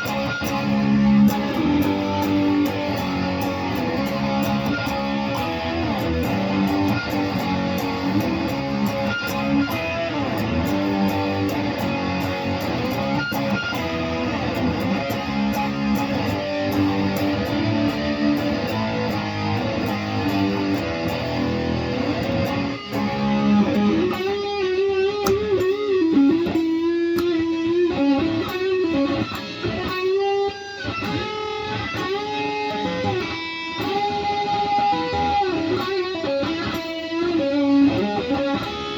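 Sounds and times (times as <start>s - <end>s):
guitar playing: 0.0s - 38.9s.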